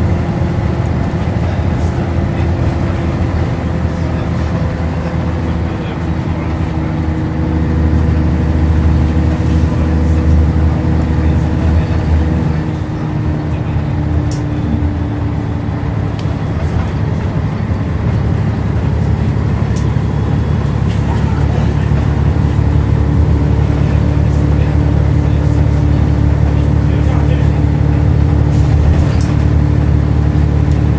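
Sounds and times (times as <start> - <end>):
bus engine drone: 0.0 - 30.9.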